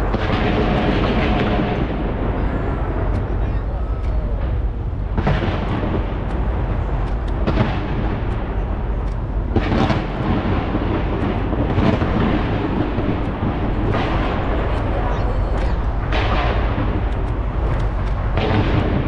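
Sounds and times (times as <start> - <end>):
fireworks booming and crackling: 0.0 - 19.0.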